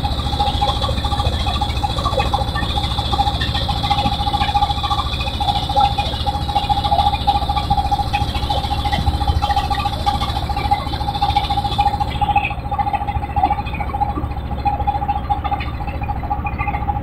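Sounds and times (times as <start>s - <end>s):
boat engine running: 0.0s - 17.0s
water splashing along hull: 0.0s - 17.0s.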